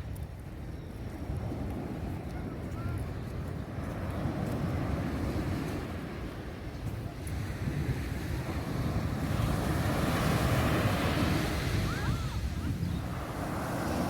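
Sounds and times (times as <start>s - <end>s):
wind buffeting microphone: 0.0s - 14.0s
sea waves washing onto beach: 1.2s - 14.0s.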